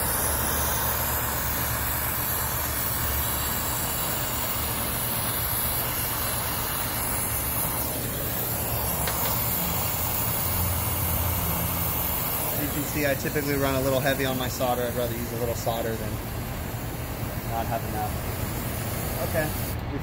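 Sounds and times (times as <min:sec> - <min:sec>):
brazing torch flame hissing: 0:00.0 - 0:19.8.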